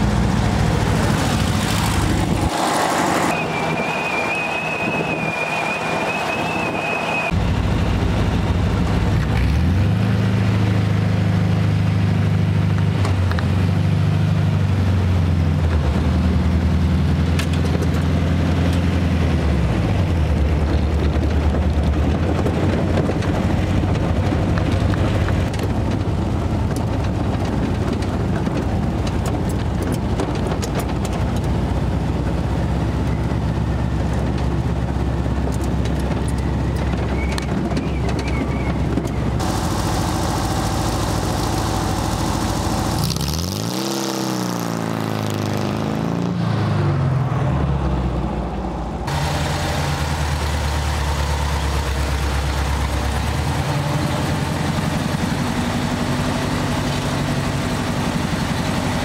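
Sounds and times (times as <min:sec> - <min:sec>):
buggy engine running: 0:00.0 - 0:59.0.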